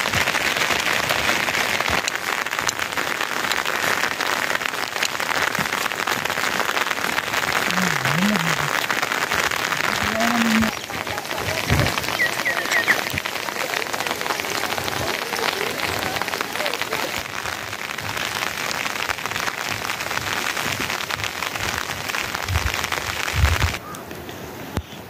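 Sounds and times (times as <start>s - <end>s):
raindrops ticking on surfaces: 0.0s - 24.9s
steady rain falling: 0.0s - 25.0s.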